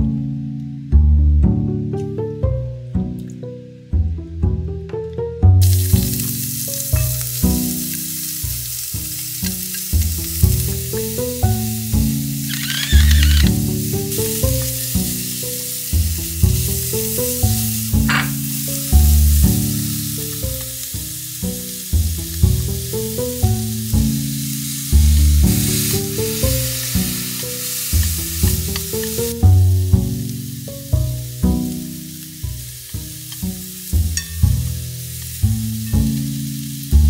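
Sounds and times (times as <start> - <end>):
background music: 0.0 - 37.0
vegetables sizzling in frying pan: 5.6 - 37.0.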